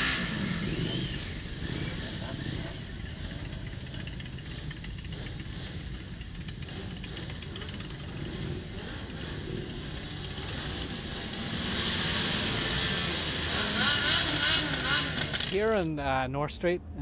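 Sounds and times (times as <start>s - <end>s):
motorcycle engines at low revs: 0.0s - 17.0s.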